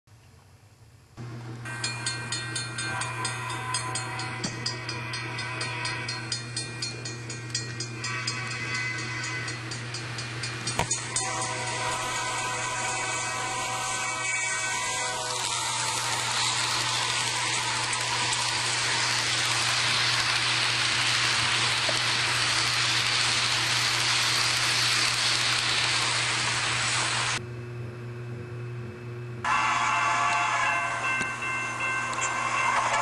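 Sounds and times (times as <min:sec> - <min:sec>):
model train whirring on track: 0:01.6 - 0:27.4, 0:29.5 - 0:33.0.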